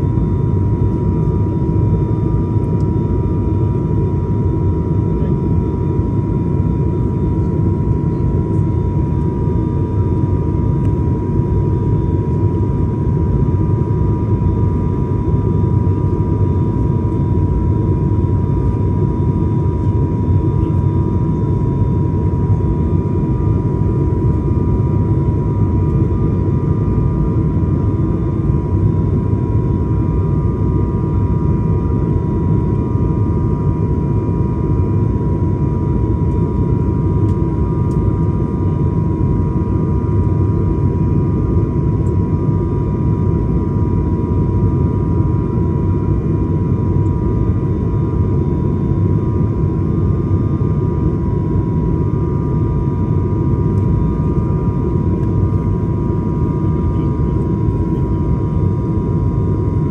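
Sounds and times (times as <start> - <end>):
airplane cabin rumble: 0.0 - 59.9
engine and propeller whine: 0.0 - 59.9.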